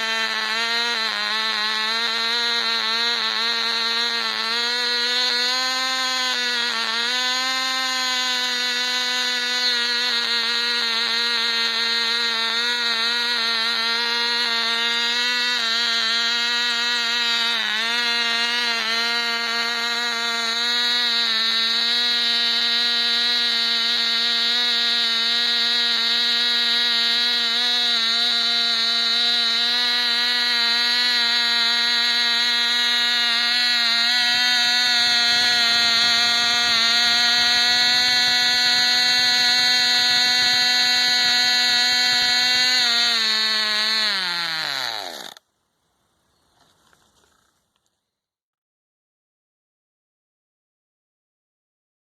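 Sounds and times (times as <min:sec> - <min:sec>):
model engine high-pitched whine: 0:00.0 - 0:45.5.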